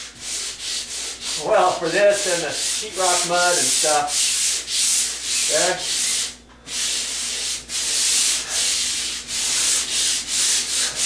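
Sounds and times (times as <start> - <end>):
sandpaper rubbing on ceiling: 0.0 - 11.0.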